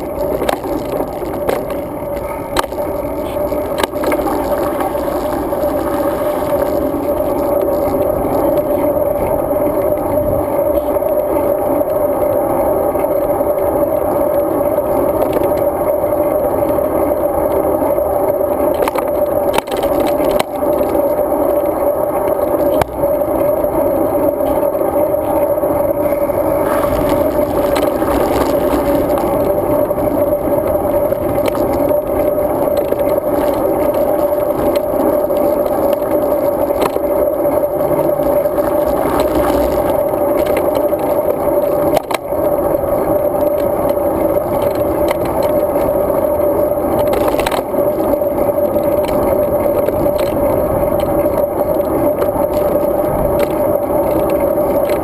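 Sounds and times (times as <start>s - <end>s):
bicycle rattling: 0.0s - 11.8s, 14.1s - 55.0s
bicycle tyre and road noise: 0.0s - 55.0s.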